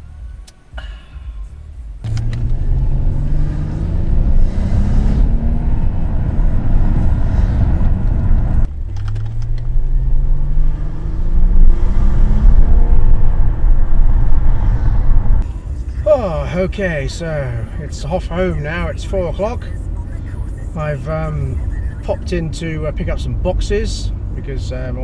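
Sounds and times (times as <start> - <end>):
car engine accelerating: 2.0 - 25.0.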